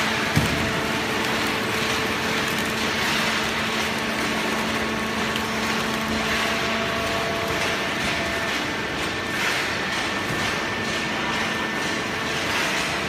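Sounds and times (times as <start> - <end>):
baler machine humming and whining: 0.0 - 13.0.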